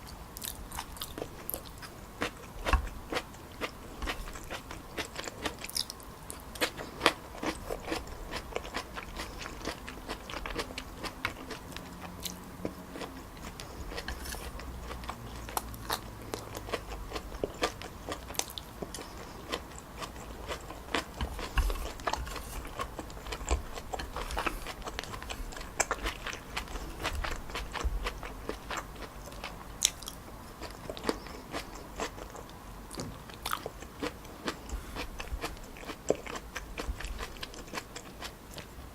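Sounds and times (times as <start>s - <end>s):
chewing noodles: 0.4s - 38.7s.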